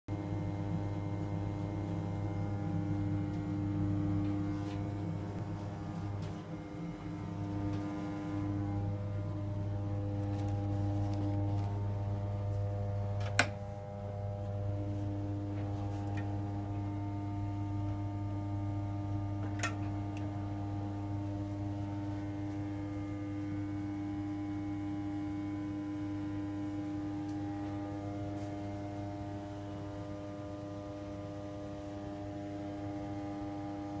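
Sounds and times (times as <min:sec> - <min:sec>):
humidifier humming drone: 0:00.1 - 0:34.0.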